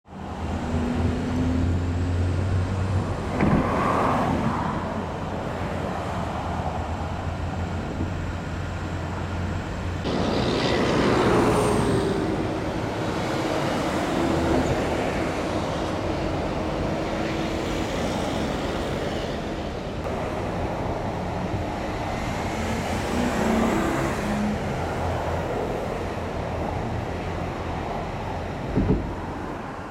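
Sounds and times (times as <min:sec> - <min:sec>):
cars passing: 0:00.1 - 0:29.9.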